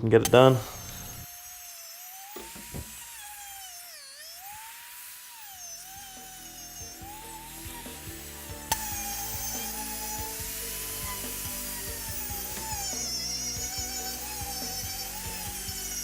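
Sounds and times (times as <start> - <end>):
rotary tool grinding antler: 0.0 - 16.0.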